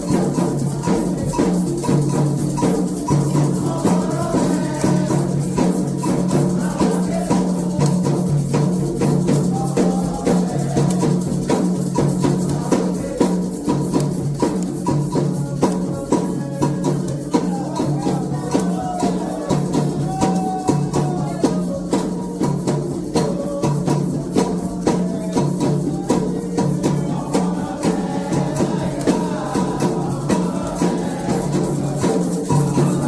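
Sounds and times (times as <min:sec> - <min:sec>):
hand drums playing steady rhythm: 0:00.0 - 0:33.0
shaken rattle: 0:00.0 - 0:33.0.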